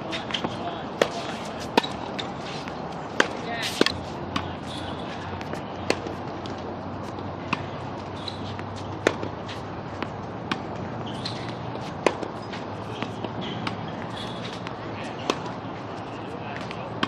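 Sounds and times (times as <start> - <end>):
tennis ball bouncing on court: 0.1 - 2.4, 3.1 - 15.6
tennis ball hit by rackets: 0.1 - 15.6.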